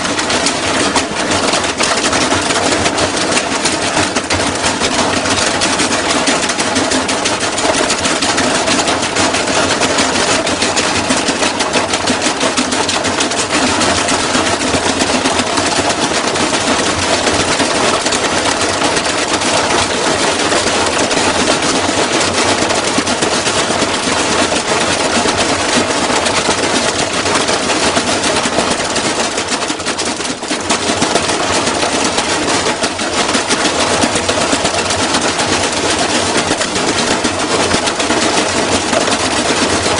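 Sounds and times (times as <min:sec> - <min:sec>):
washing machine clattering and banging: 0:00.0 - 0:39.9.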